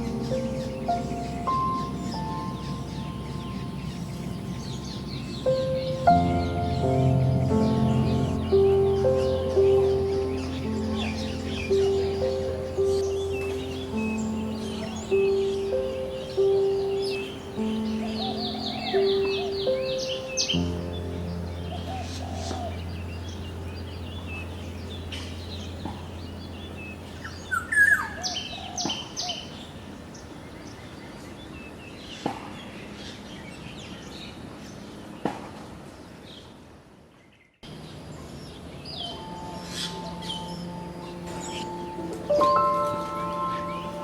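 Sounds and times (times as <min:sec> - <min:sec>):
wild birds chirping: 0:00.0 - 0:44.0.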